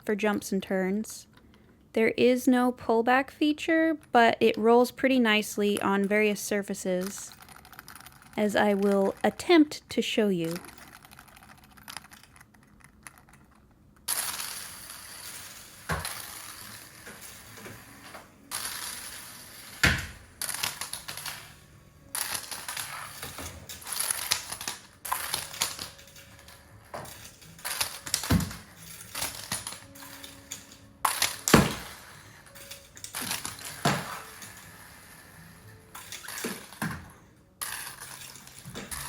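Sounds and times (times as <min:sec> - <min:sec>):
toy wheels rolling and rattling: 0:04.0 - 0:39.0.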